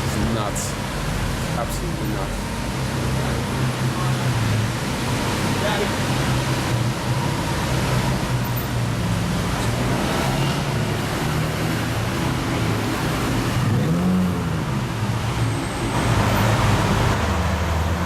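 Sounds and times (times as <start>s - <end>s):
car engine cruising: 0.0s - 18.0s
road and wind noise: 0.0s - 18.0s.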